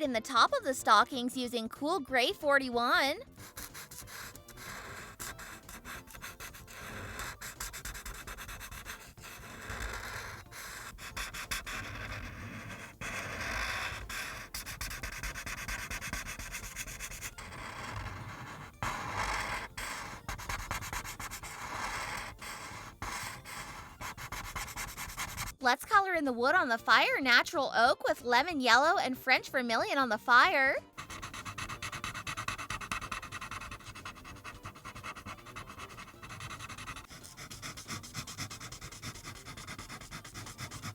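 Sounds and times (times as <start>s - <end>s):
marker tip scratching paper: 2.9s - 26.0s, 30.8s - 40.9s.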